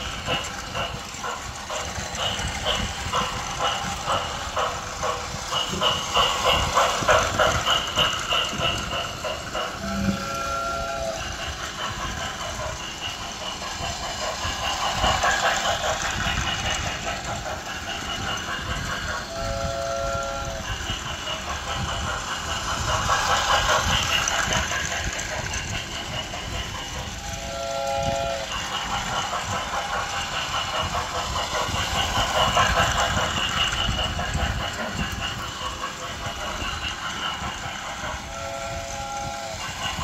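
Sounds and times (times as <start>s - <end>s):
toy train rattling and whirring: 0.0s - 40.0s.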